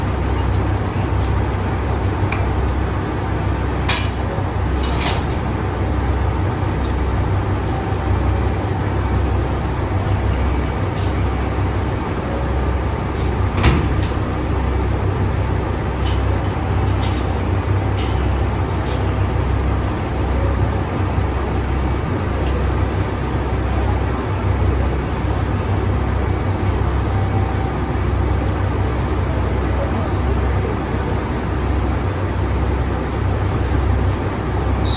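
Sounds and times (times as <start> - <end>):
diesel railcars idling: 0.0 - 34.9.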